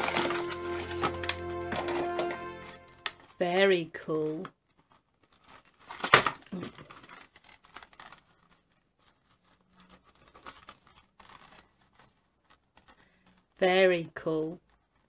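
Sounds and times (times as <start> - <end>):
packaging crinkling and tearing: 0.0 - 3.5, 4.6 - 13.6.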